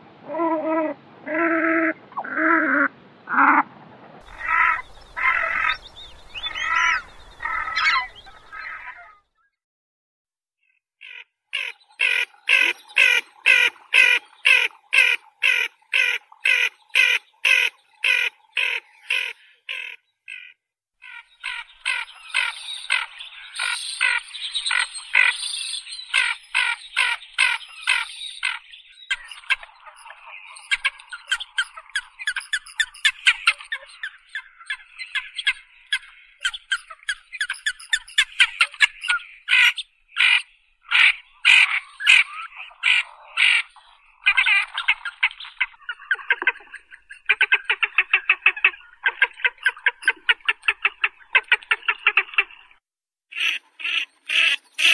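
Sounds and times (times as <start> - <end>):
ducks calling: 1.3 - 9.2, 11.0 - 52.7.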